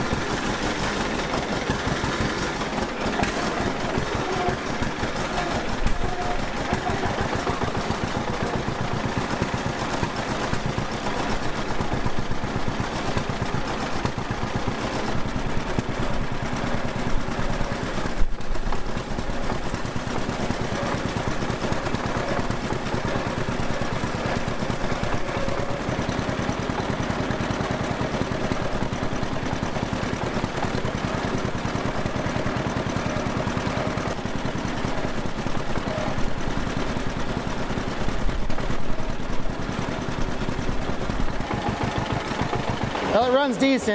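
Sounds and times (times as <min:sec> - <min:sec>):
tractor engine popping exhaust: 0:00.0 - 0:43.9.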